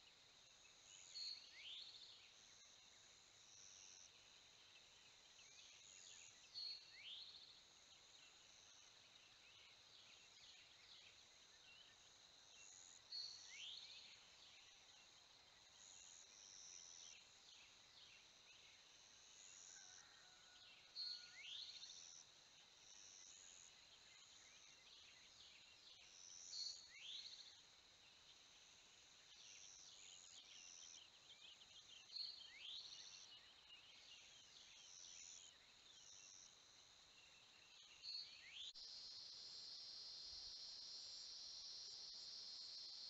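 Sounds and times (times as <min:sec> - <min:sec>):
faint bird chirps: 0:00.0 - 0:22.3, 0:29.2 - 0:43.0
high insect hiss: 0:00.0 - 0:43.0.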